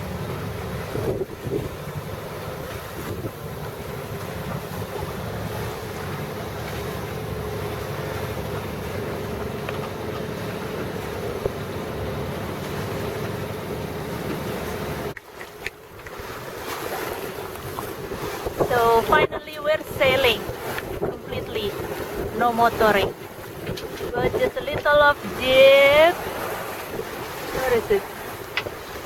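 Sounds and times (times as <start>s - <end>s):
boat engine running: 0.0s - 29.0s
water noise: 0.0s - 29.0s
wind buffeting microphone: 0.0s - 29.0s.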